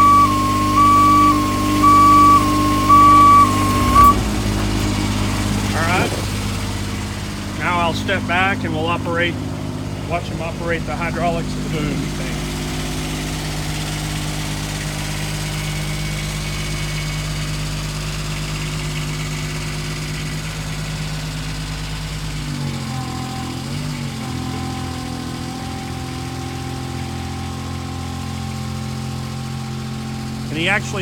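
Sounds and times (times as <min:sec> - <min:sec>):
small engine running steadily: 0:00.0 - 0:31.0.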